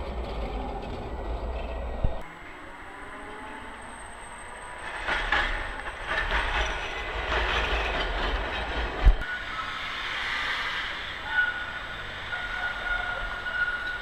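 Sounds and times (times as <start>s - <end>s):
tram wheels clattering over rails: 0.0s - 2.2s, 4.4s - 14.0s.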